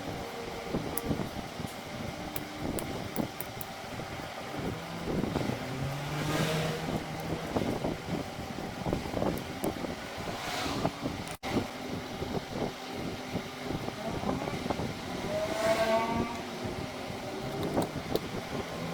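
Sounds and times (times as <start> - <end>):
motor vehicle noise: 0.0 - 18.9.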